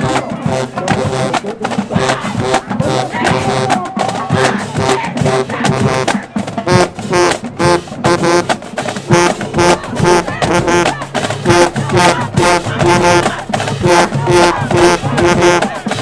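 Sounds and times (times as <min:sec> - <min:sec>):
drumline percussion: 0:00.0 - 0:16.0
marching band brass: 0:00.0 - 0:16.0.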